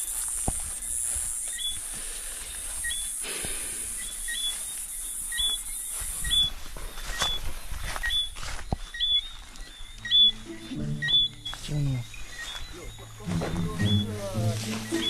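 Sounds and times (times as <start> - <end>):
footsteps through grass: 0.0 - 15.0
small animals chirping: 0.0 - 15.0.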